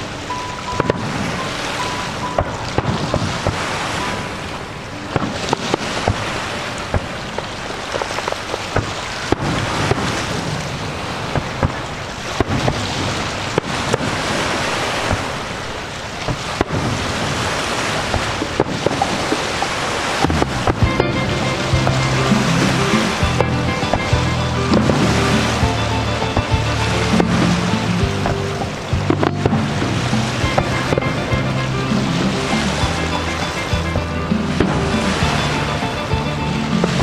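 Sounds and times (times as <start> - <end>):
steady rushing noise: 0.0 - 37.0
fireworks bangs and crackles: 0.7 - 37.0.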